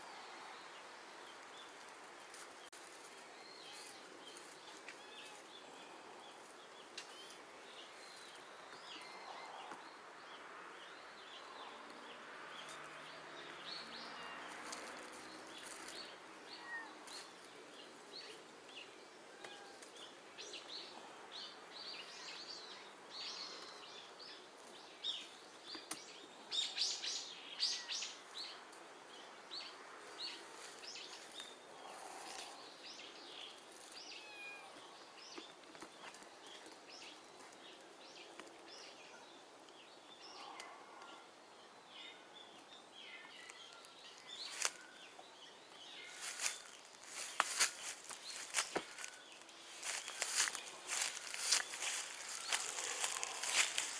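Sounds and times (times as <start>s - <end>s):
small birds chirping: 0.5s - 53.9s.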